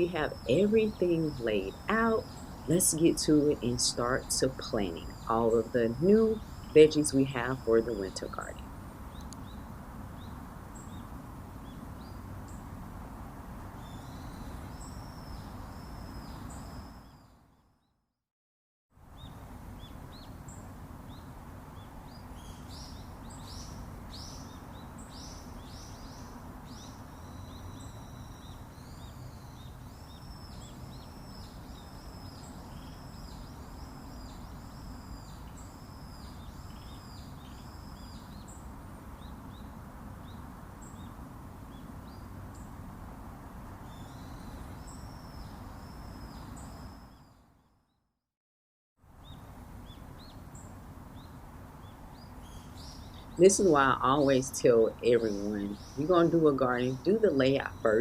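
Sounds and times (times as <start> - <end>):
background noise: 0.0 - 17.9, 19.0 - 48.0, 49.0 - 58.0.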